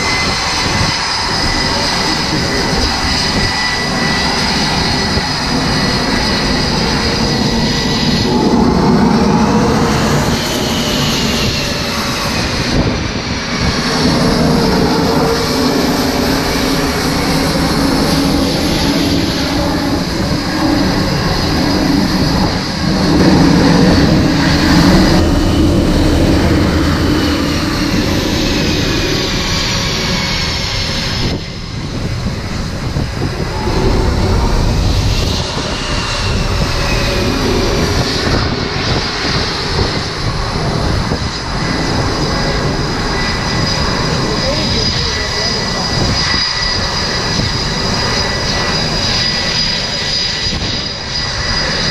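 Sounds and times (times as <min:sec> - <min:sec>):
high jet whines: 0:00.0 - 0:51.9
jet engine roar: 0:00.0 - 0:51.9.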